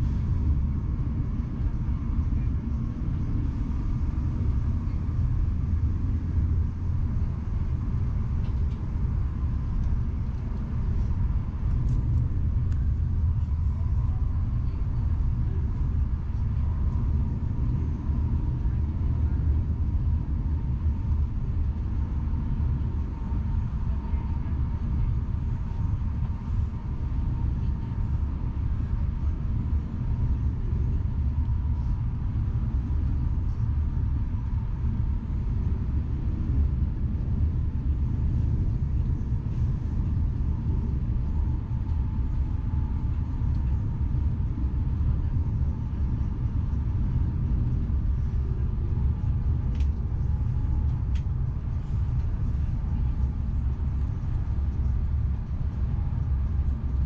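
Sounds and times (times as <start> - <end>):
faint steady whine: 0.0 - 57.0
train running low rumble: 0.0 - 57.0.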